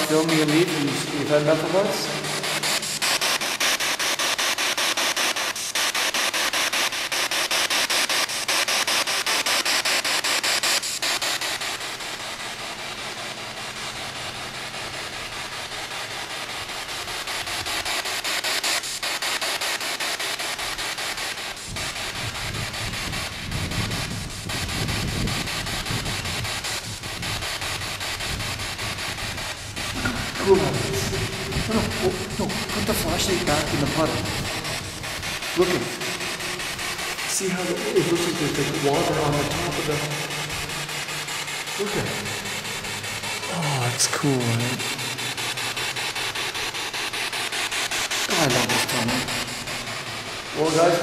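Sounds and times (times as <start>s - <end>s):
pulsing radio static: 0.0s - 12.4s, 18.4s - 51.0s.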